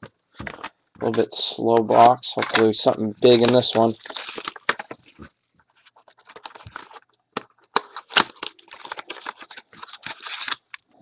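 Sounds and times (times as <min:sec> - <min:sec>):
card packaging crinkling: 0:00.3 - 0:11.0.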